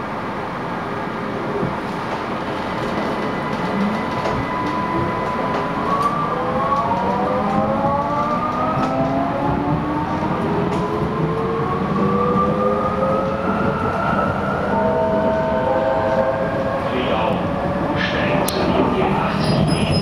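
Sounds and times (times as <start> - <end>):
metro train rumble: 0.0 - 20.0.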